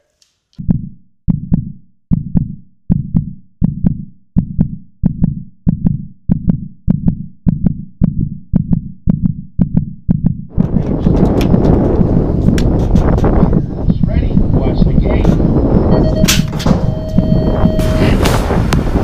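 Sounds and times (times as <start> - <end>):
heartbeat double thump: 0.6 - 19.0.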